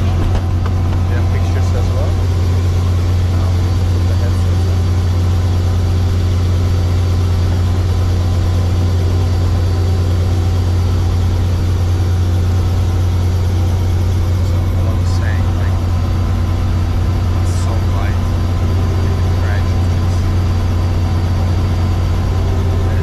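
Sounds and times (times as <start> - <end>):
helicopter engine and rotor idling: 0.0 - 23.0.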